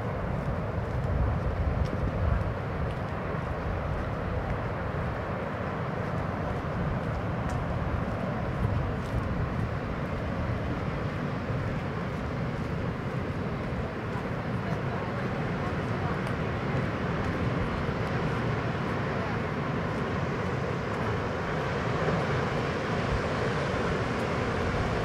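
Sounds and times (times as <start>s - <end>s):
ocean waves breaking on a beach: 0.0s - 25.0s.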